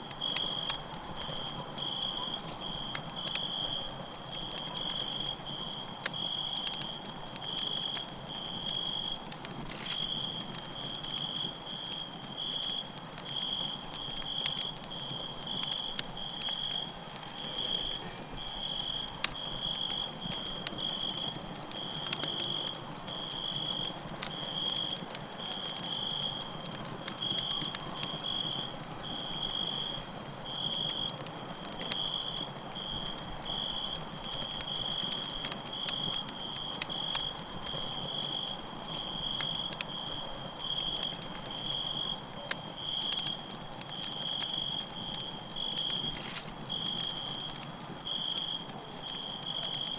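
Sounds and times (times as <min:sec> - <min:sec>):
campfire crackling and popping: 0:00.0 - 0:49.9
crickets chirping: 0:00.0 - 0:49.9.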